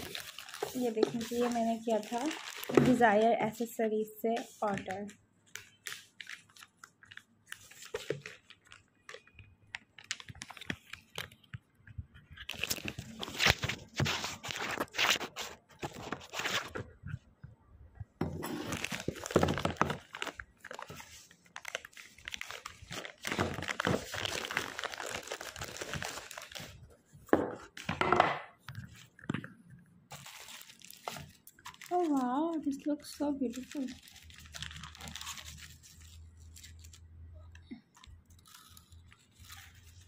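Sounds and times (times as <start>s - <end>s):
plastic mailer crinkling and tearing: 0.0s - 3.3s, 4.4s - 11.5s, 12.3s - 16.9s, 18.4s - 26.9s, 30.1s - 37.1s, 38.0s - 40.0s.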